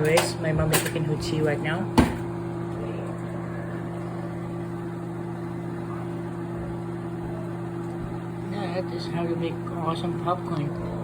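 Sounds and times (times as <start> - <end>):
fan whirring: 0.0 - 11.0
microwave oven hum: 0.0 - 11.0.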